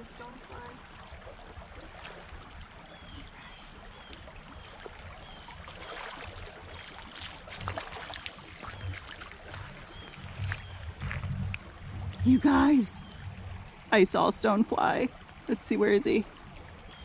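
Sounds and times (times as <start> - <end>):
person wading through water: 0.0 - 14.3
rocky creek running: 0.0 - 17.0.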